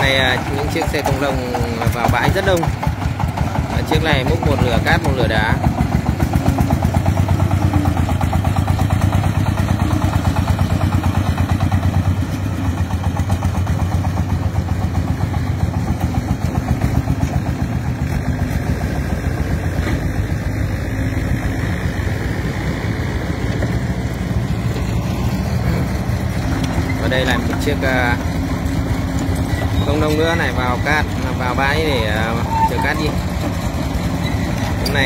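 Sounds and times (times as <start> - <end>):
diesel engine chugging: 0.0 - 35.0.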